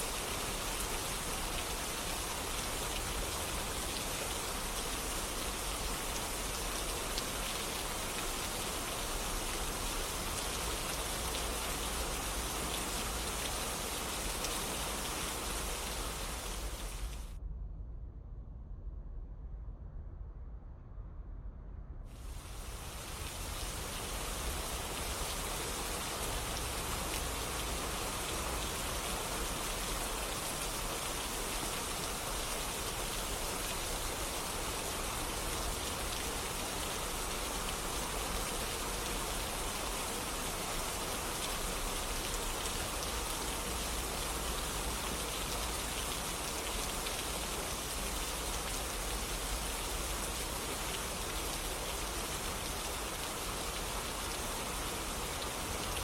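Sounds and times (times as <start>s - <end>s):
steady rain falling: 0.0s - 17.4s, 22.1s - 56.0s.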